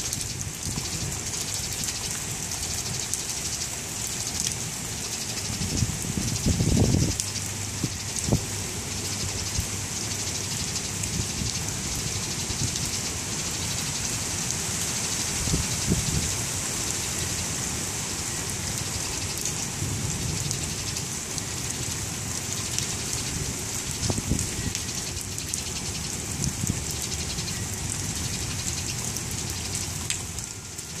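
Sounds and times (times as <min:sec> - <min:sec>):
close raindrop ticks: 0:00.0 - 0:17.6, 0:18.2 - 0:31.0
low wind gusts: 0:00.0 - 0:31.0
steady rain on grass and concrete: 0:00.0 - 0:31.0.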